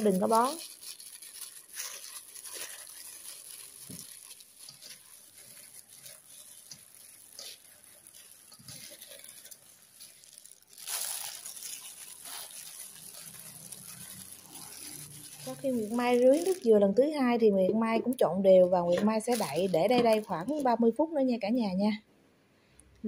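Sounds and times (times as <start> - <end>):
rice flakes and glove rustling: 0.0 - 17.0, 18.5 - 20.8.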